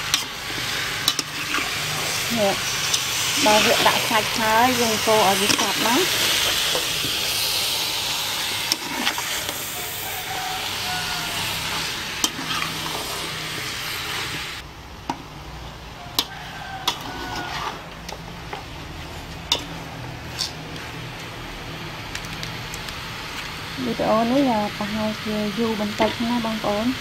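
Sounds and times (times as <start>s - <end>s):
chicken sizzling in a pot: 0.0s - 14.6s, 15.6s - 27.0s.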